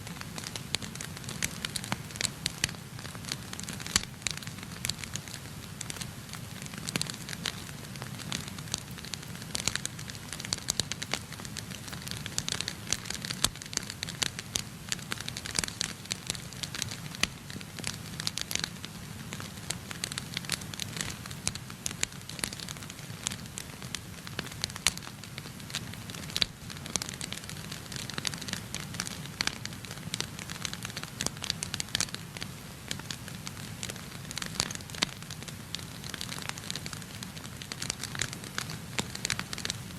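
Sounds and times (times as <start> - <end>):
logs crackling and popping: 0.1 - 39.9
low rumble of flames: 0.3 - 39.9.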